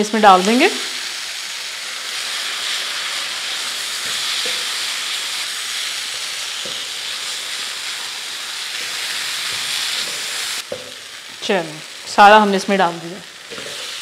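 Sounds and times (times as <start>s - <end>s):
chicken sizzling in a wok: 0.0s - 14.0s.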